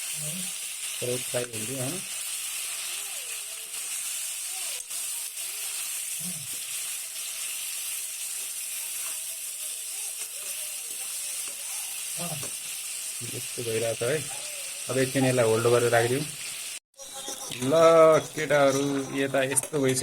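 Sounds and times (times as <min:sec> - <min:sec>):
meat sizzling in oil: 0:00.0 - 0:19.6.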